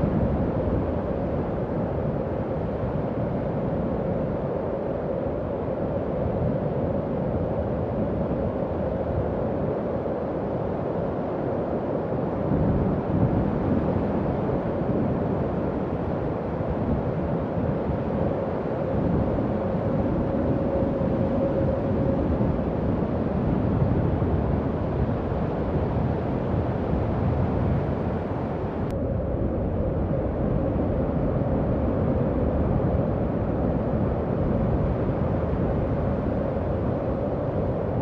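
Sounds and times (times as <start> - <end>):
howling wind: 0.0 - 38.0.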